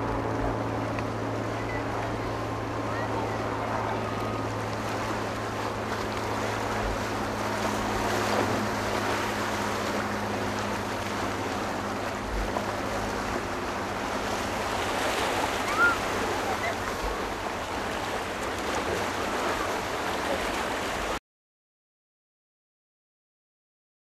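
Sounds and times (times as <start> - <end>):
motorboat engine droning: 0.0 - 21.2
water rushing: 0.0 - 21.2.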